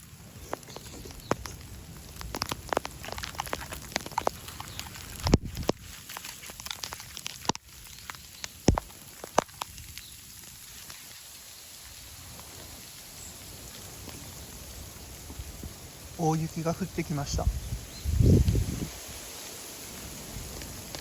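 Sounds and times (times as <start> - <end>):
snow hiss: 0.0 - 21.0
snow ticking on surfaces: 0.0 - 21.0.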